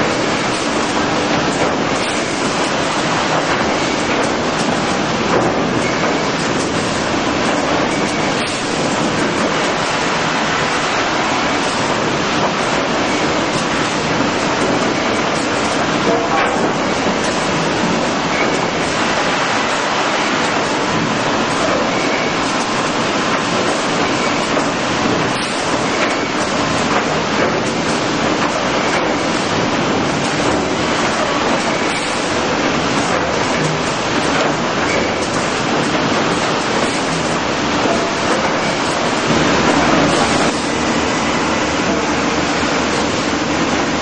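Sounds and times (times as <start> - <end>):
sawmill machinery din: 0.0 - 44.0.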